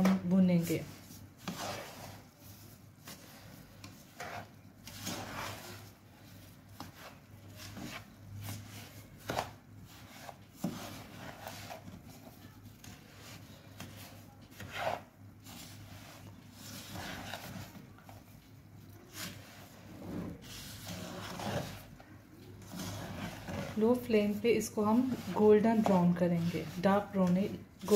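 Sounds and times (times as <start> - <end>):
spatula scraping a pan: 0.6 - 18.2, 19.0 - 27.2.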